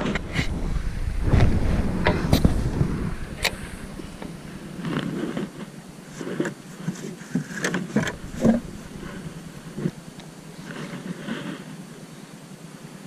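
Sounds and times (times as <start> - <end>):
gear knocking and scraping in boat: 0.0 - 11.2
water: 0.0 - 13.0
wind: 0.0 - 13.0.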